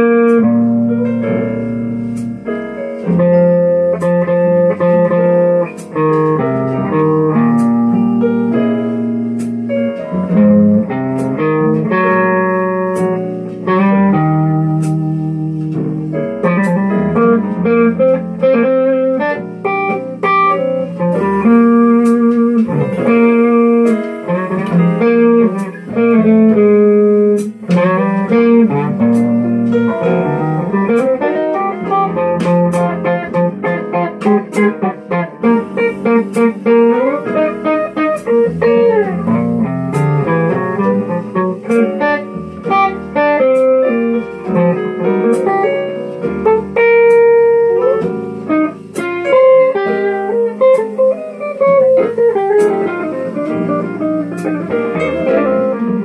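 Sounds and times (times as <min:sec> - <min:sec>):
electric guitar bluesy melody: 0:00.0 - 0:56.0.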